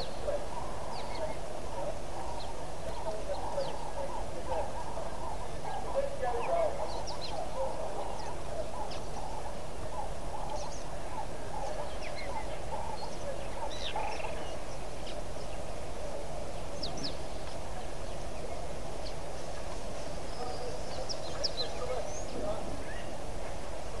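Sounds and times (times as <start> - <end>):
outdoor background noise: 0.0 - 24.0
wild birds chirping: 0.0 - 24.0.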